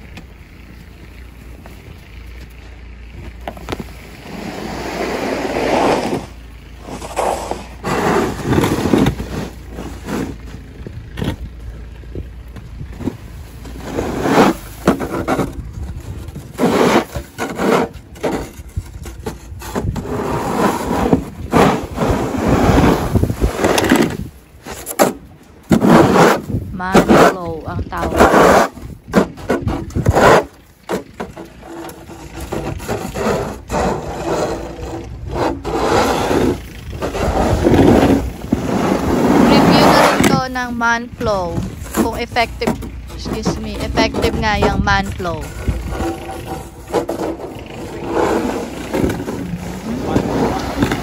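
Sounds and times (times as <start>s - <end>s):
snow brushed off car: 0.6s - 12.0s, 12.8s - 51.0s
snow shovel scraping asphalt: 0.8s - 12.0s, 12.8s - 51.0s.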